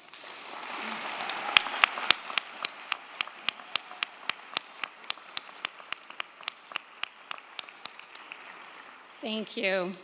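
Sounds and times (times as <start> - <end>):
close sharp claps: 0.0 - 8.9
audience applauding: 0.0 - 9.2.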